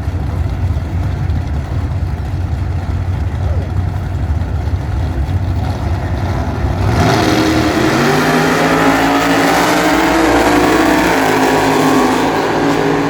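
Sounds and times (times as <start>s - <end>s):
drag racing car engine revving: 0.0s - 13.0s.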